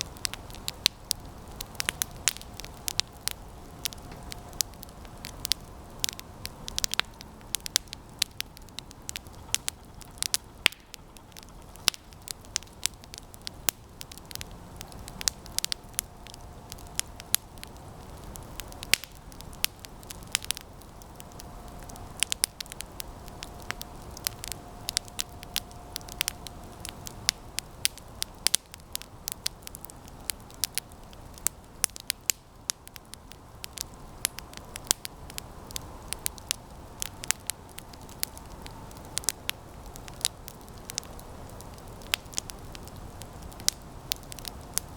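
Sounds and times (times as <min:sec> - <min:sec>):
campfire crackling and popping: 0:00.0 - 0:44.9
low rush of flame: 0:00.0 - 0:44.9.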